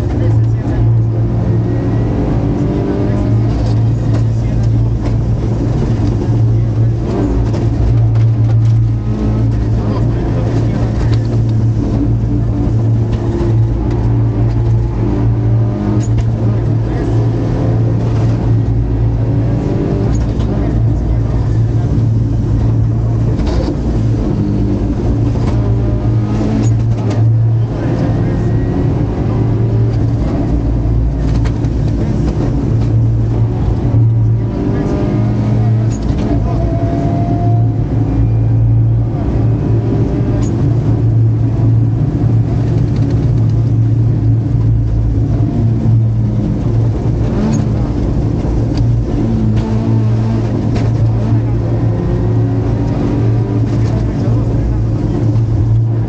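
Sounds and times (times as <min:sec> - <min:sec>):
rally car engine running: 0:00.0 - 0:56.0.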